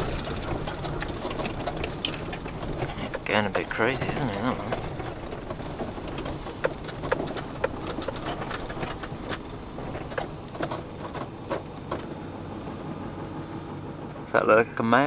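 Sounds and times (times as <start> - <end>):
sharp clicks and knocks: 0.0 - 12.1
low engine rumble: 0.0 - 15.0.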